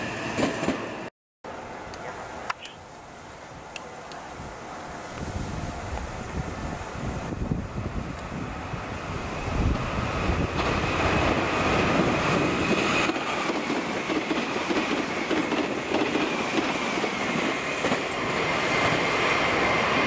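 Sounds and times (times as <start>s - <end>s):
electric train passing at speed: 0.0s - 20.0s.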